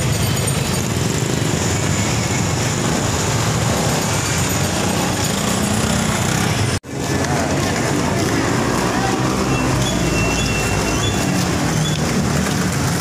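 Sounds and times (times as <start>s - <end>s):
motorcycle and tricycle engines: 0.0s - 13.0s.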